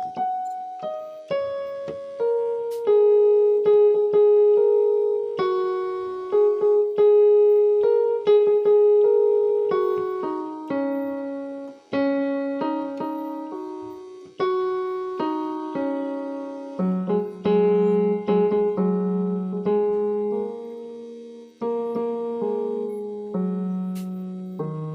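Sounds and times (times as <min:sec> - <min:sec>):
slow solo piano melody: 0:00.0 - 0:24.9.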